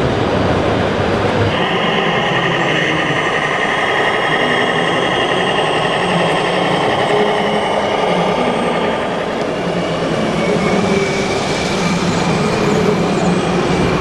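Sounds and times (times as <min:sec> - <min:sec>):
dense constant din: 0:00.0 - 0:14.0.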